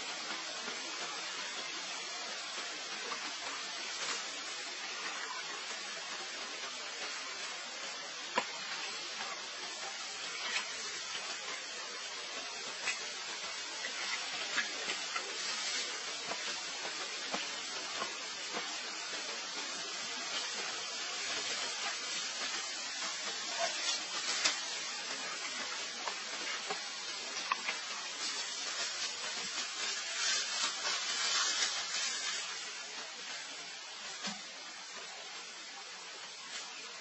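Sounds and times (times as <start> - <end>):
faint clicks and crackles: 0.0 - 37.0
steady hiss: 0.0 - 37.0.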